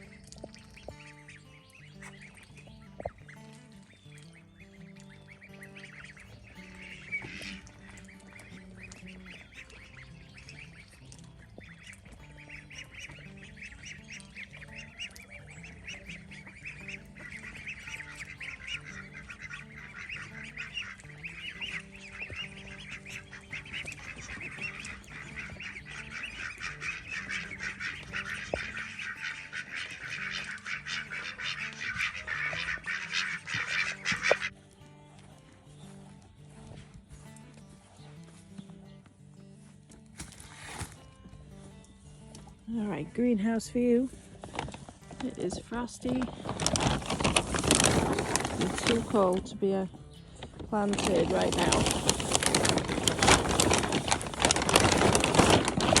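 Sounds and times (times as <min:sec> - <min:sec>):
background music: 0:00.0 - 0:56.0
ducks quacking: 0:00.0 - 0:56.0.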